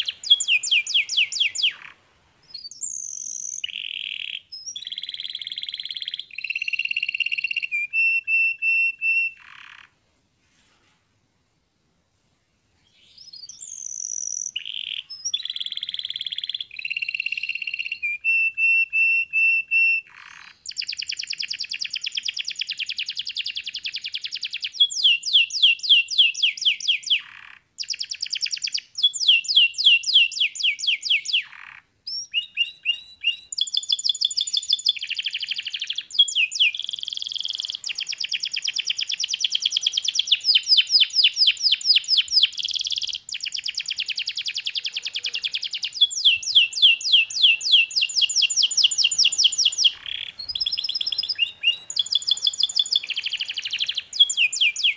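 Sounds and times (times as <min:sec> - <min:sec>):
canary singing trills: 0:00.0 - 0:10.0, 0:12.9 - 0:54.9.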